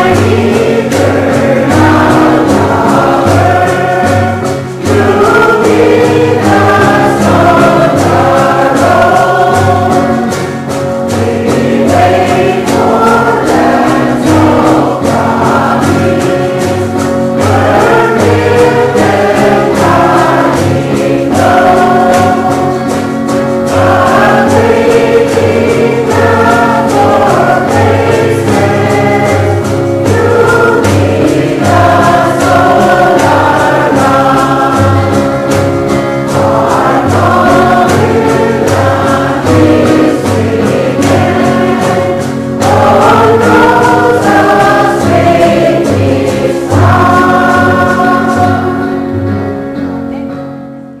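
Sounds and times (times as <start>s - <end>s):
choir singing gospel song: 0.0s - 49.9s.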